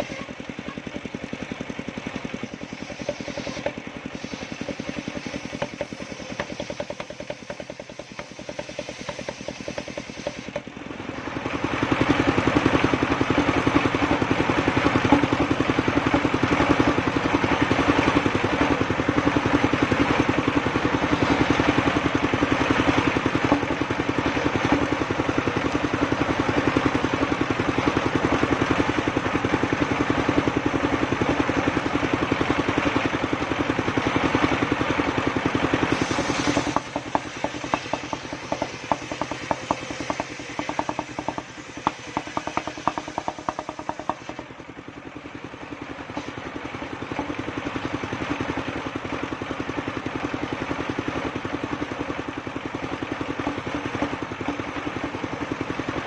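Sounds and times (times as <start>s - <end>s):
sawmill engine pulsing: 0.0s - 56.0s.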